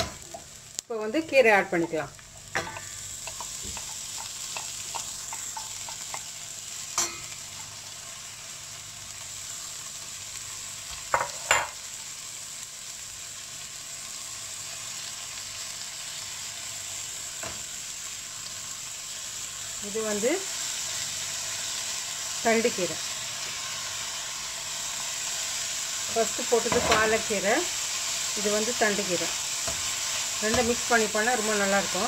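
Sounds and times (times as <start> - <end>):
spinach sizzling in hot oil: 0.0 - 32.0.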